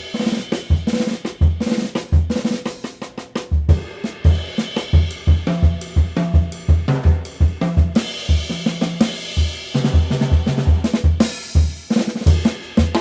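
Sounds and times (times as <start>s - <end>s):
cymbal and hi-hat wash: 0.0s - 3.0s, 3.7s - 13.0s.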